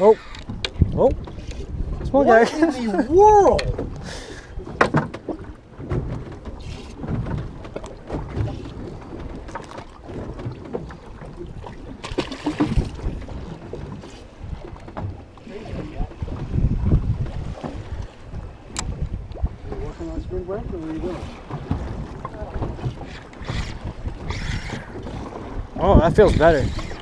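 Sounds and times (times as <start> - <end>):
water lapping against boat hull: 0.0 - 27.0
wind buffeting microphone: 0.0 - 27.0.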